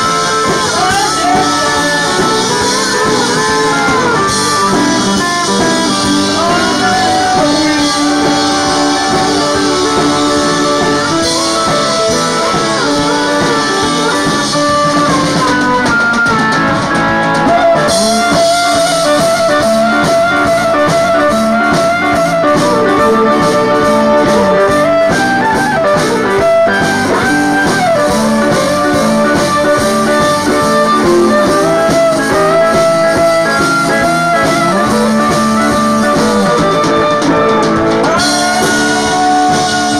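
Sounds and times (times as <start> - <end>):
guitar: 0.0 - 39.9.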